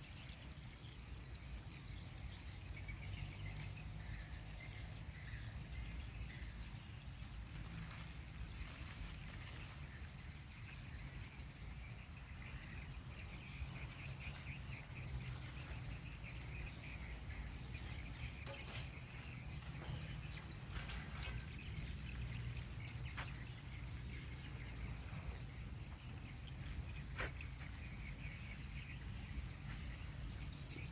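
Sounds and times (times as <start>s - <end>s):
birds chirping: 0.0s - 30.9s
insects chirping: 0.0s - 30.9s.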